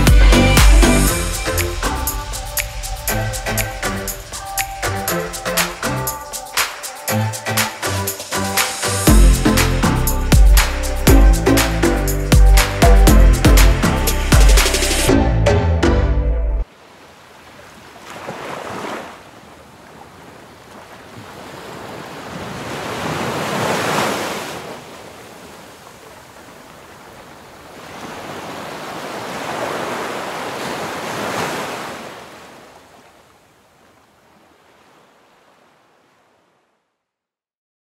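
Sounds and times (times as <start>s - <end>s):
sea waves washing in: 0.0s - 12.8s, 16.6s - 36.7s.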